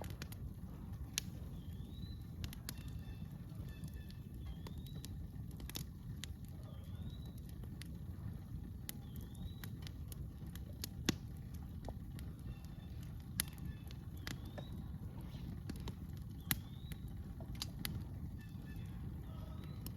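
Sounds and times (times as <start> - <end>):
campfire crackling and popping: 0.0 - 19.9
low steady rumble: 0.0 - 19.9.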